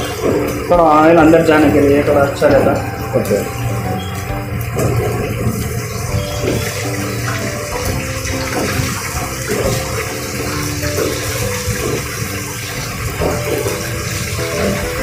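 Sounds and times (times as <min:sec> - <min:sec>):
oil bubbling and sizzling: 0:00.0 - 0:15.0.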